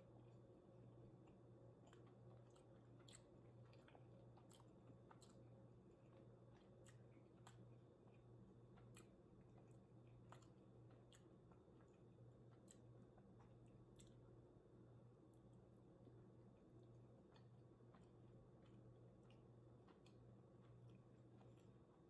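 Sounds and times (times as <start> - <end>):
chewing food: 0.1 - 22.0.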